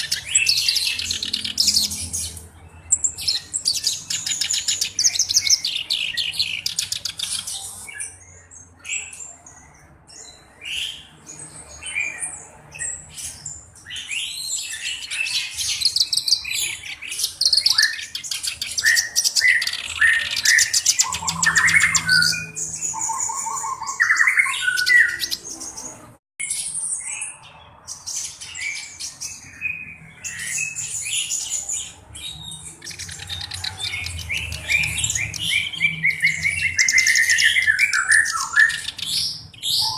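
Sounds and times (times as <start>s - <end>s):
reed warbler singing: 0.0s - 9.1s, 9.8s - 39.9s.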